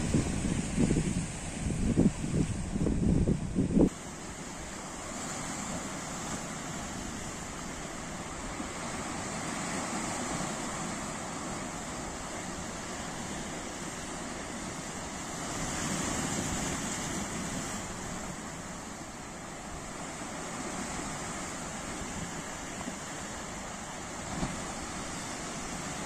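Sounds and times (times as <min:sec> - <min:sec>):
surf washing over rocks: 0:00.0 - 0:26.0.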